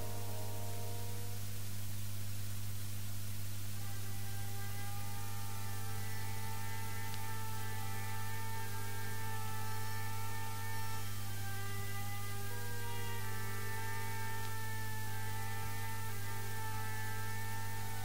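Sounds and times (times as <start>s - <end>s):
faint orchestral chords: 0.0s - 2.1s, 3.6s - 18.0s
electrical mains hum: 0.0s - 18.0s.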